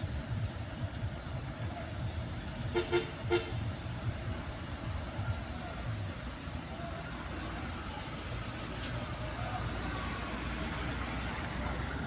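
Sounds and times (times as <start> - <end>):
road traffic noise: 0.0 - 12.0
truck engines idling: 0.0 - 12.0.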